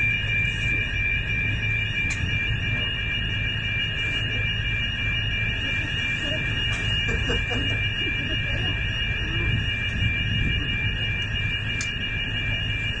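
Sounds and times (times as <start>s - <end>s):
high-pitched alarm tone: 0.0s - 13.0s.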